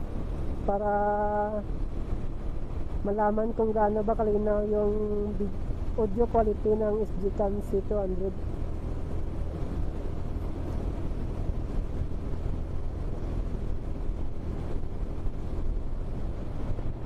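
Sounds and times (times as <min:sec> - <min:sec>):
motorcycle engine and road rumble: 0:00.0 - 0:17.0
wind noise: 0:00.0 - 0:17.0.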